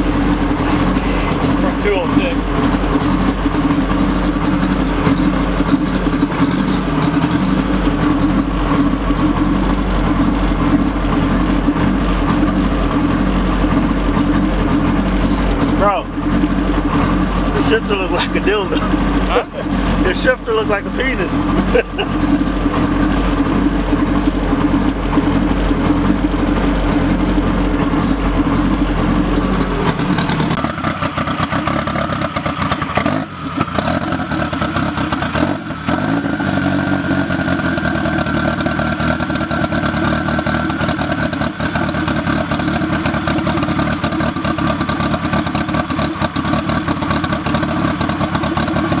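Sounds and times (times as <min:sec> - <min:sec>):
turbocharged engine running: 0:00.0 - 0:49.0.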